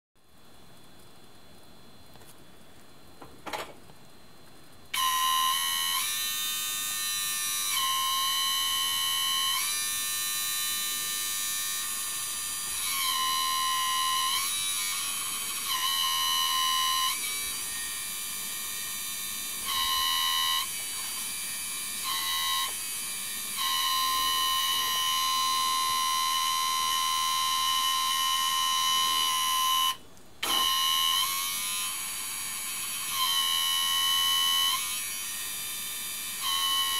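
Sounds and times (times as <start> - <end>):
hydraulic pump whining: 4.9 - 36.9.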